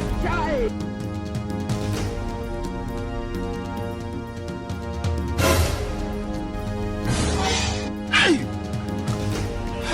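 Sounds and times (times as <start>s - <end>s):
background music with steady bass: 0.0s - 9.9s.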